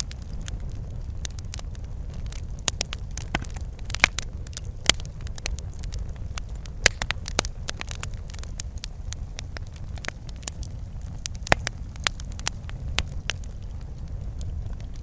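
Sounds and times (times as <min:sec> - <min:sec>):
low rumble of burning: 0:00.0 - 0:15.0
sharp pops of burning wood: 0:00.0 - 0:15.0
wood fire crackling: 0:00.0 - 0:15.0.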